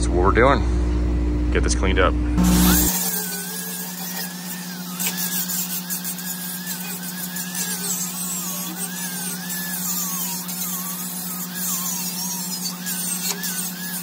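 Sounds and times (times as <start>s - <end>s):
die grinder grinding steel: 2.4s - 14.0s.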